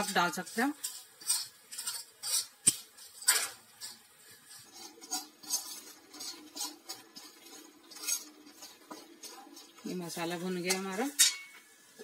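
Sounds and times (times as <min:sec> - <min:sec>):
metal ladle scraping steel pan: 0:00.0 - 0:11.6.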